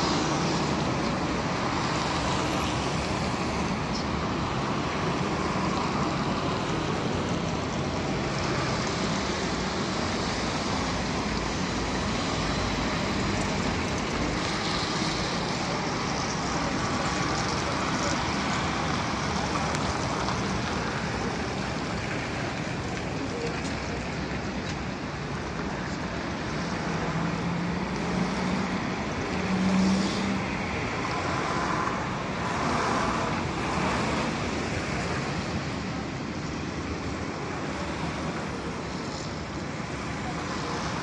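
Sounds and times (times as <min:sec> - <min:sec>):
cars passing: 0:00.0 - 0:41.0.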